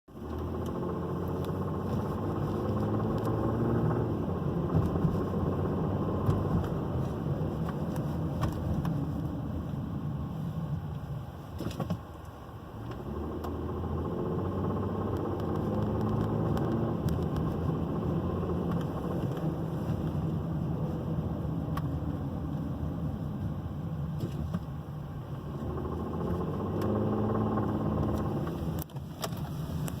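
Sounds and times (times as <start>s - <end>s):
car engine accelerating: 0.1s - 30.0s.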